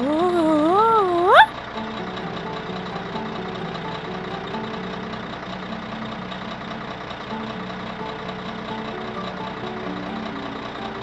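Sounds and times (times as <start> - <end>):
cartoon toy excavator engine running: 0.0 - 11.0.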